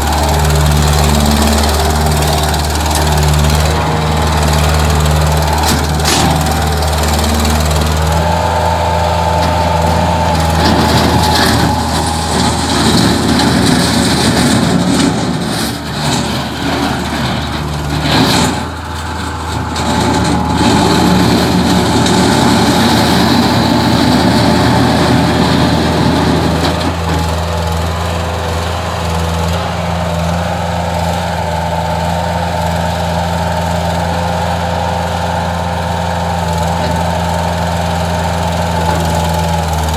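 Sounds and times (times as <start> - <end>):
loader engine running: 0.0 - 39.9.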